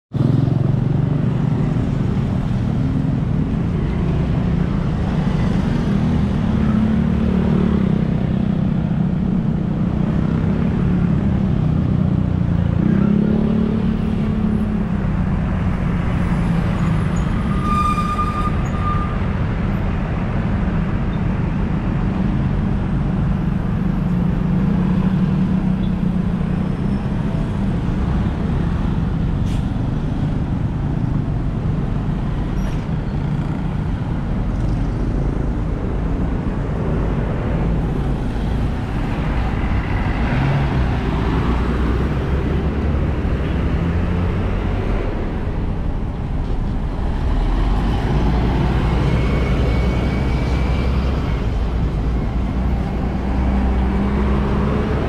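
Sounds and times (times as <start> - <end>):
motorbike engines rumbling: 0.2 - 17.7, 18.6 - 55.0.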